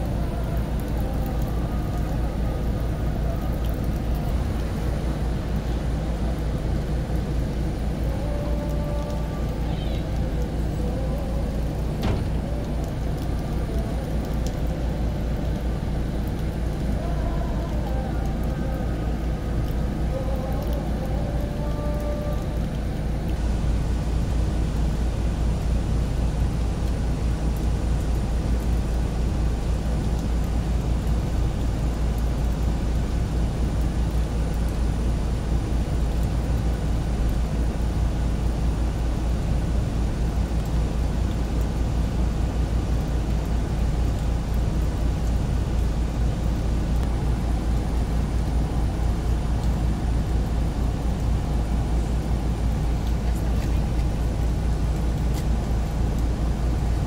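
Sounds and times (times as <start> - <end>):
car road noise rumble and hiss: 0.0 - 57.0.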